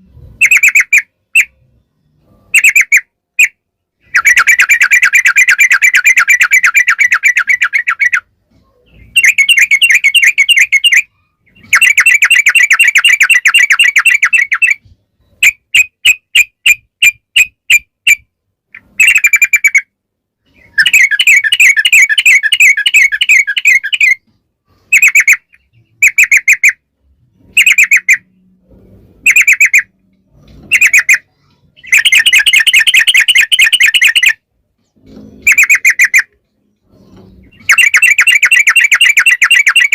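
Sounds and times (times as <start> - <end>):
bird trilled chattering song: 0.4 - 3.0, 4.0 - 18.2, 18.8 - 24.3, 24.9 - 26.8, 27.4 - 28.4, 29.2 - 39.9.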